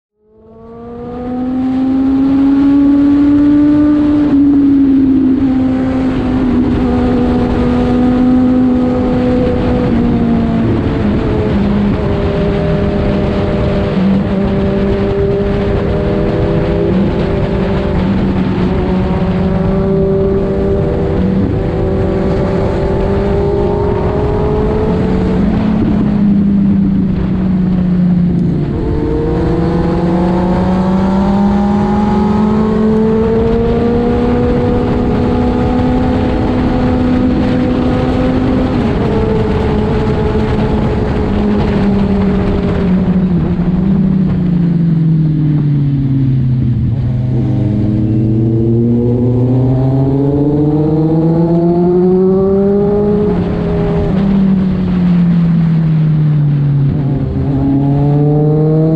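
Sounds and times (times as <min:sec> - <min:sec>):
motorcycle engine running: 0:00.5 - 0:58.9.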